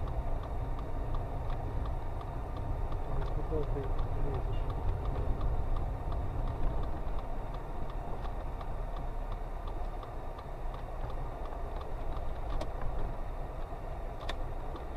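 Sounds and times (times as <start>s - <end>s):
turn-signal relay ticking: 0.0s - 12.3s
car engine and road noise: 0.0s - 14.9s.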